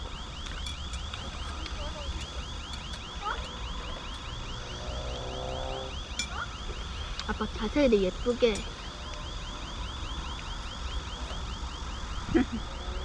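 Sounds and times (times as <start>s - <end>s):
cicada chirping: 0.0s - 13.0s.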